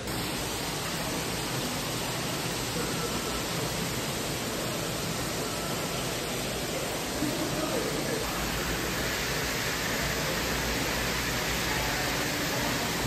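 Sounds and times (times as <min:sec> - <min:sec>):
water running in fish tank: 0:00.0 - 0:13.0.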